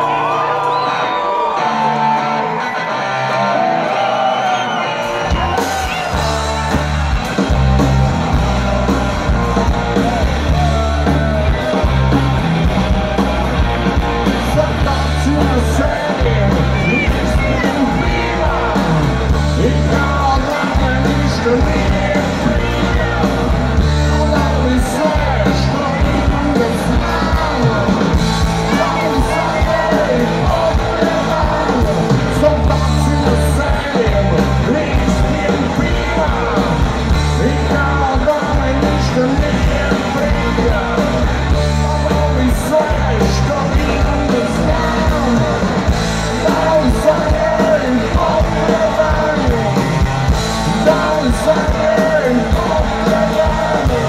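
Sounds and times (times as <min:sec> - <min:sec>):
bass guitar: 0:00.0 - 0:54.0
drums: 0:00.0 - 0:54.0
electric guitar: 0:00.0 - 0:54.0
person singing: 0:08.6 - 0:54.0.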